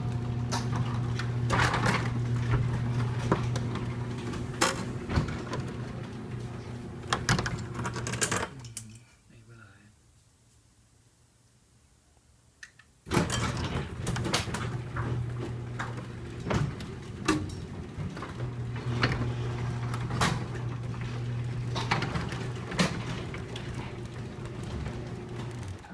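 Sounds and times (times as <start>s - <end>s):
garage door motor humming: 0.0s - 8.6s, 13.1s - 25.9s
garage door clanking and rattling: 0.0s - 8.7s, 13.1s - 25.9s.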